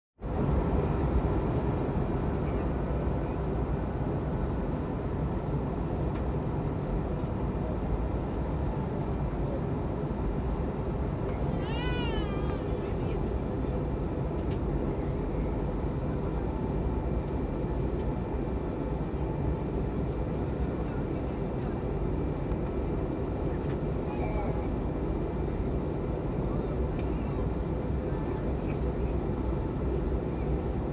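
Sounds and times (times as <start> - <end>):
low rumbling background noise: 0.2 - 30.9.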